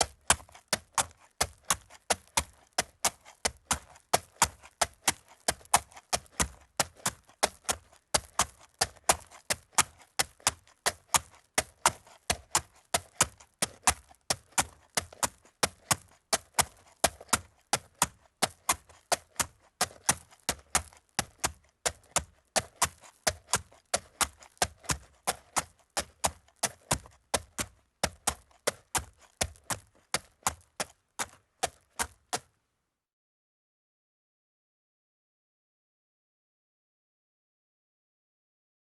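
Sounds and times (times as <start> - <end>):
horse hooves on gravel: 0.0 - 32.5.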